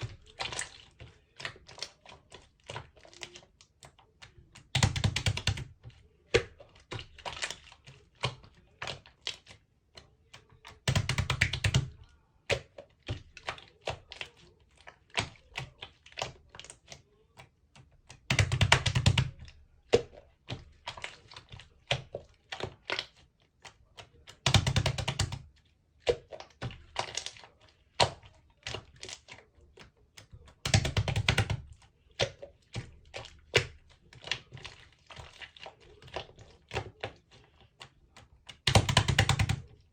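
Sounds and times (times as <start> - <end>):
slime crackling squishing: 0.0 - 39.9.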